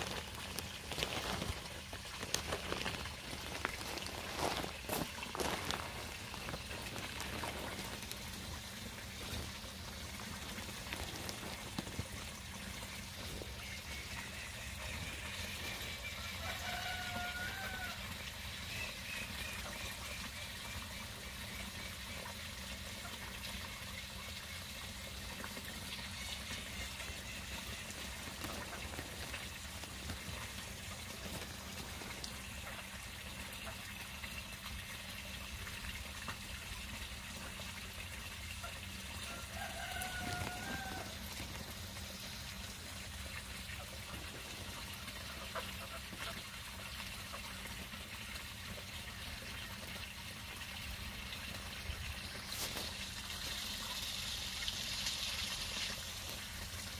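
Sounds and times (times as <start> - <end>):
water pouring into pond: 0.0 - 56.9.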